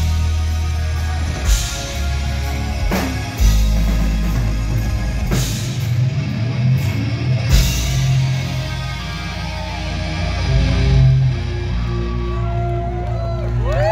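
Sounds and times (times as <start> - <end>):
live rock band playing: 0.0 - 13.6.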